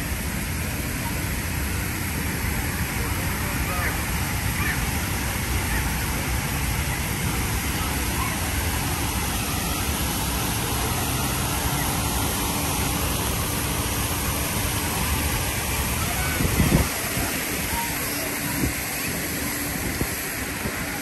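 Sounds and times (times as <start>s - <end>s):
faint engine hum: 0.0s - 21.0s
fountain water spilling onto pavement: 0.0s - 21.0s
rain hissing: 0.0s - 21.0s.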